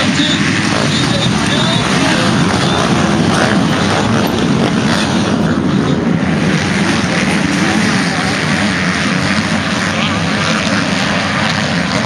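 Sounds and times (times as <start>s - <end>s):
motocross bikes racing: 0.0s - 12.0s.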